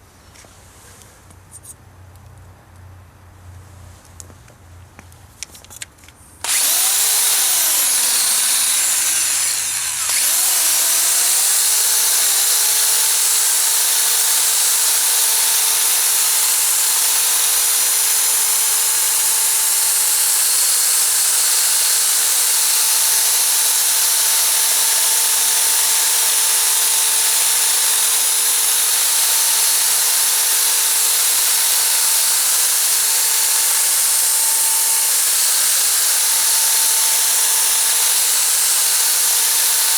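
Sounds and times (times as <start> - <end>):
electric drill spinning: 6.4 - 39.9.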